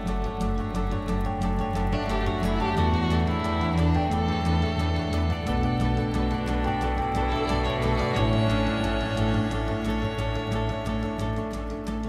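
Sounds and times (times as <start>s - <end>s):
instrumental music plucked pulse: 0.0s - 12.0s.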